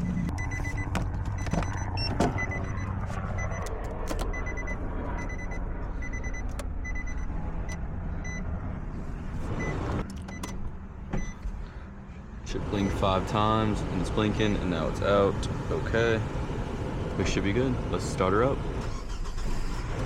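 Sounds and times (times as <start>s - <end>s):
low hum: 0.0s - 18.7s.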